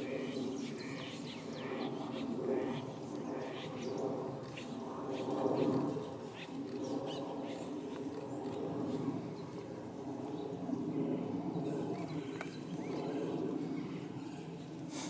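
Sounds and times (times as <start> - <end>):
low background drone: 0.0 - 15.0.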